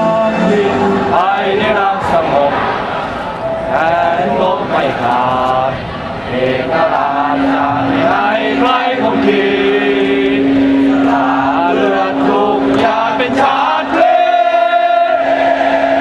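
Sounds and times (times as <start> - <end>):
crowd chanting and singing: 0.0 - 16.0
steady held tone: 0.0 - 16.0.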